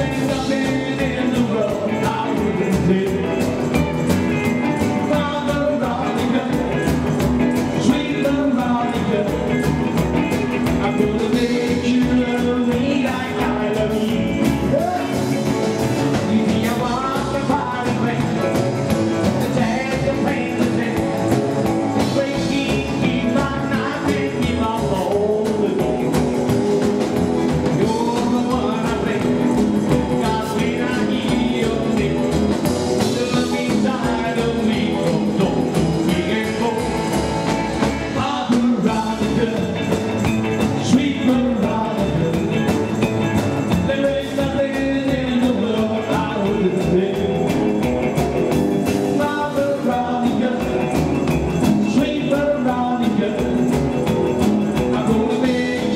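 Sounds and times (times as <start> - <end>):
acoustic guitar: 0.0 - 55.9
double bass: 0.0 - 55.9
drums: 0.0 - 55.9
man singing: 0.0 - 55.9
rock and roll band playing: 0.0 - 55.9.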